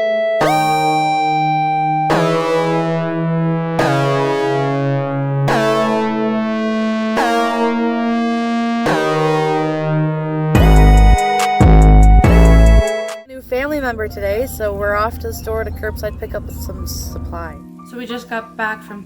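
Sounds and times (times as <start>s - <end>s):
synthesizer chords: 0.0s - 19.0s.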